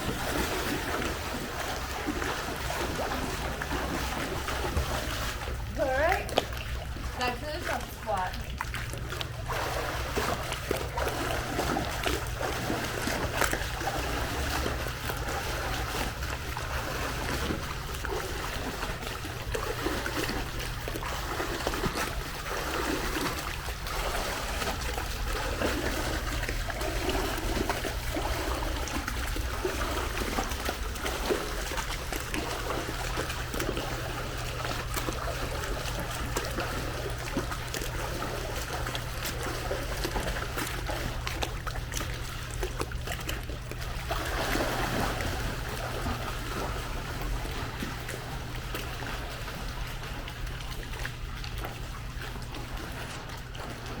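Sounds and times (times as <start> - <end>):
pool water sloshing and splashing: 0.0 - 54.0
steady low hum: 0.0 - 54.0.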